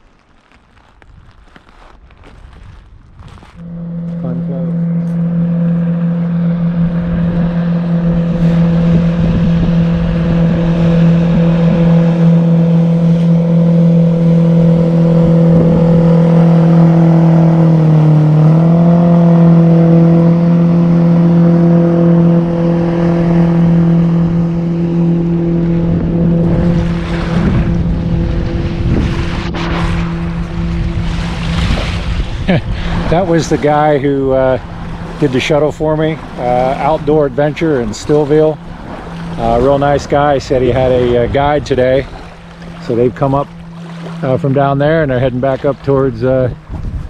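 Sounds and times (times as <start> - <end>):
outboard motor running: 3.3 - 47.0.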